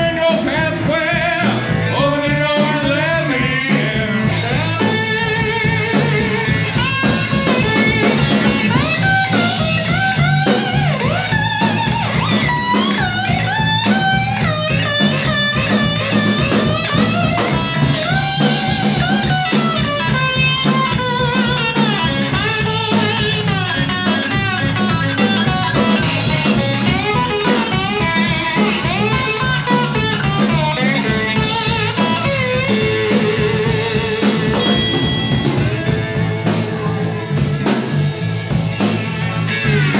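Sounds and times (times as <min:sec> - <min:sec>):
drum kit steady beat: 0:00.0 - 0:39.9
electric bass: 0:00.0 - 0:39.9
electric slide guitar: 0:00.0 - 0:39.9.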